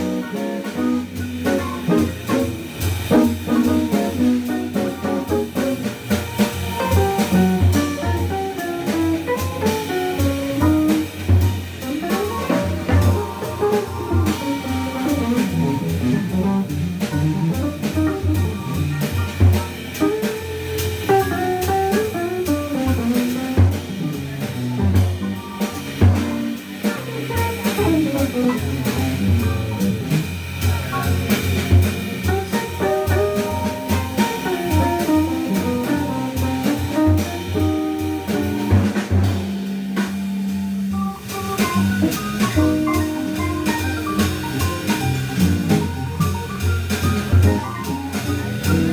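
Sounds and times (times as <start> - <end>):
organ bass line: 0.0 - 20.4, 21.0 - 39.6, 40.5 - 48.9
electric guitar melody: 0.0 - 38.9, 41.1 - 48.9
drum kit with cymbals: 0.0 - 48.9.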